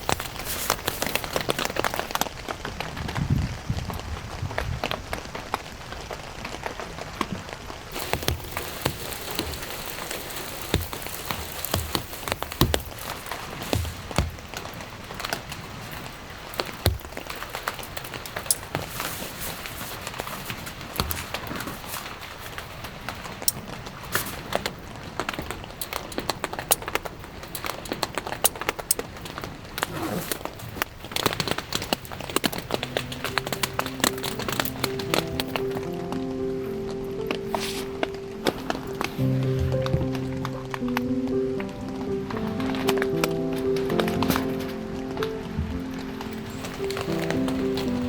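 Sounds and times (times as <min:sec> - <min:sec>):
rain falling: 0:00.0 - 0:48.0
raindrops ticking on a surface: 0:00.0 - 0:48.0.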